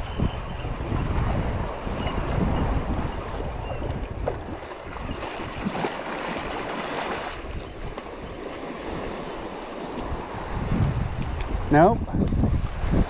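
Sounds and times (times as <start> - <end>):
wind buffeting microphone: 0.0 - 13.0
small waves washing on beach: 0.7 - 13.0.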